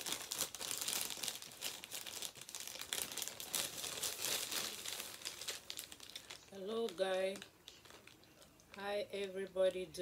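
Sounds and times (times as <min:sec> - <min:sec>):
plastic mailing bag crinkling: 0:00.0 - 0:09.7.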